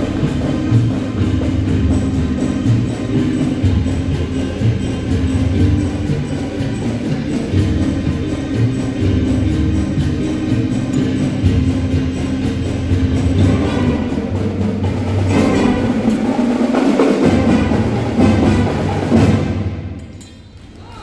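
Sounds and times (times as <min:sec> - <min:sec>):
music with percussion and low notes: 0:00.0 - 0:21.0.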